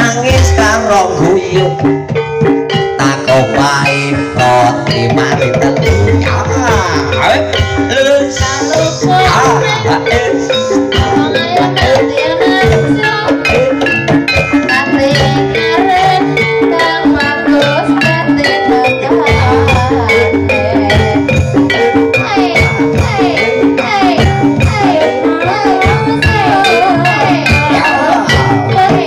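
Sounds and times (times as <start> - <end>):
drums and percussion: 0.0 - 29.0
pitched percussion melody: 0.0 - 29.0.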